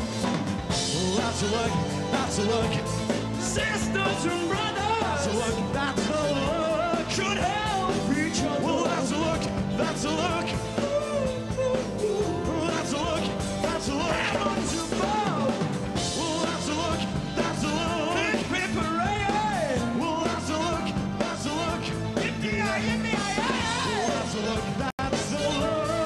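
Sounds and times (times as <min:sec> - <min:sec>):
upbeat pop-rock music: 0:00.0 - 0:26.0
man singing into microphone: 0:00.8 - 0:26.0.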